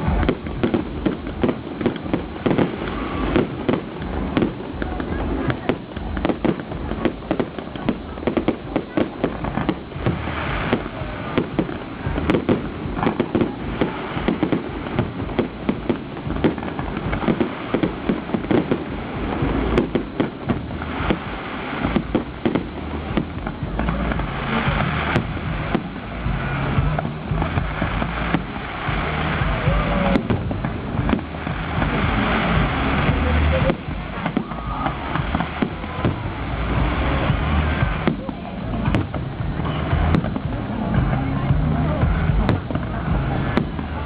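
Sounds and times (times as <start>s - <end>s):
fireworks bangs and pops: 0.0s - 44.0s.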